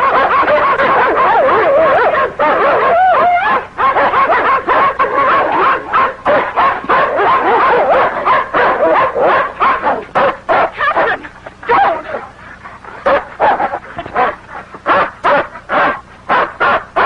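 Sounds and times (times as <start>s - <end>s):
dog barking in rapid bursts: 0.0s - 17.0s.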